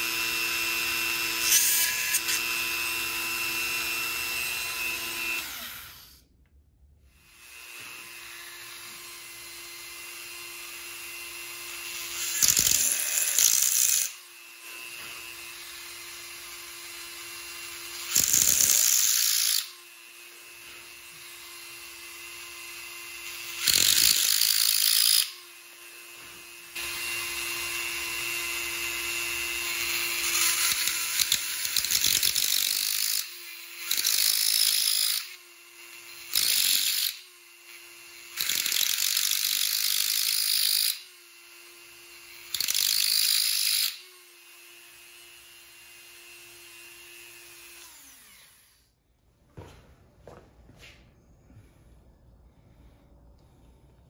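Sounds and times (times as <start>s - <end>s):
rotary tool grinding steel: 0.0s - 6.2s, 7.1s - 48.9s.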